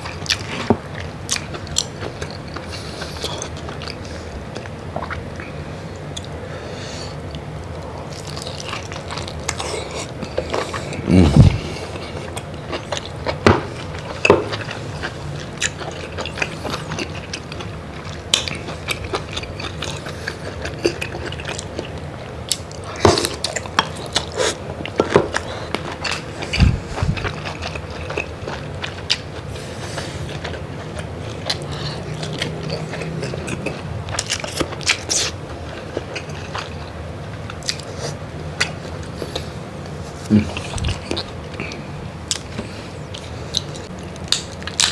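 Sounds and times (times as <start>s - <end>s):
chewing and biting: 0.0s - 6.4s, 7.3s - 39.5s, 40.2s - 44.9s.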